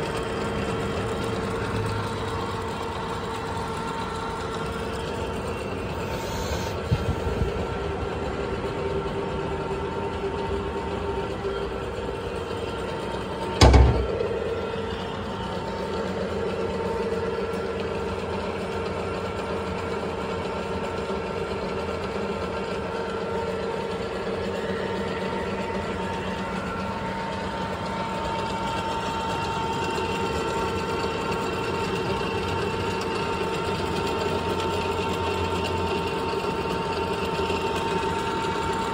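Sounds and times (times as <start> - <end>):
lathe humming and whining: 0.0 - 38.9.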